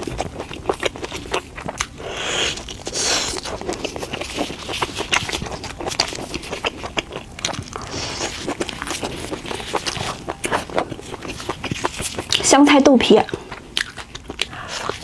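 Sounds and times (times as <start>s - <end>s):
crunchy bites and chewing: 0.0s - 12.5s, 13.2s - 15.0s.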